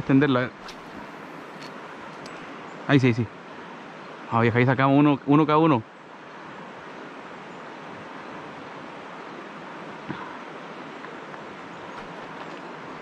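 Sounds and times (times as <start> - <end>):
river water rushing: 0.6 - 4.4, 6.0 - 13.0.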